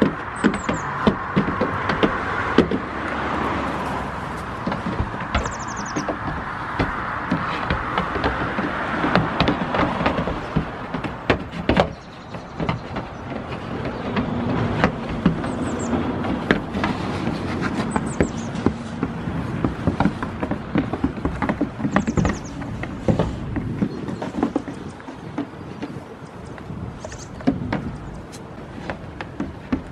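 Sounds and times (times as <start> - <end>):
hooves clattering on wooden roof: 0.0 - 29.9
outdoor background noise: 0.0 - 29.9.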